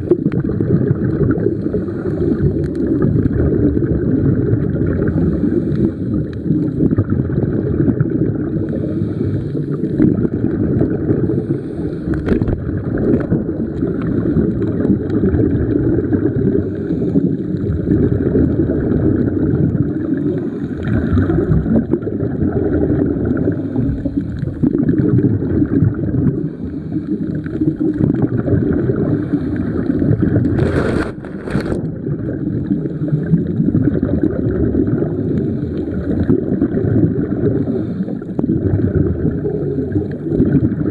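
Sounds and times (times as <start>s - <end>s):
underwater rumble of moving water: 0.0s - 40.9s.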